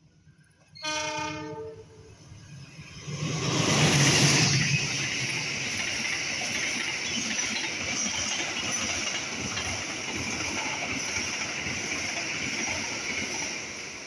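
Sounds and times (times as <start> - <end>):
train wheels rushing on rails: 2.2 - 14.0.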